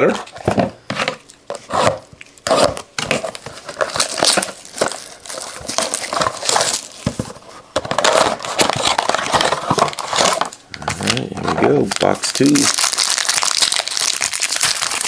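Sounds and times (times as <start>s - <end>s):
plastic wrap crinkling: 1.2s - 15.0s.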